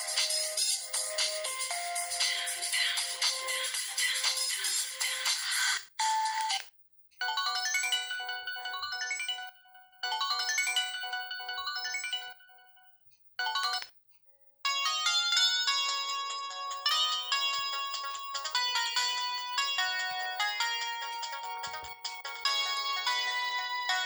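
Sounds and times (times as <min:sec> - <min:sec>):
mobile phone ringtone melody: 0:00.0 - 0:05.1, 0:06.0 - 0:06.6, 0:07.2 - 0:12.8, 0:13.4 - 0:13.8, 0:14.7 - 0:24.0.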